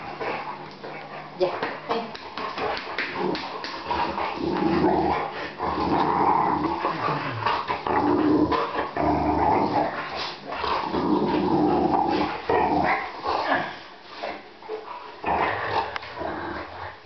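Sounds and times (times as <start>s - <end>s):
dogs play-growling: 0.0s - 17.0s
dogs snuffling: 0.0s - 17.0s.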